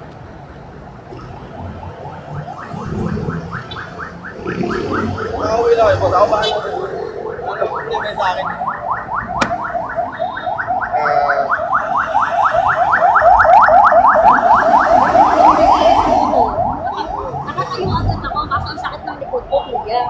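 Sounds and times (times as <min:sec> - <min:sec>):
electronic siren yelping: 0:01.2 - 0:20.0.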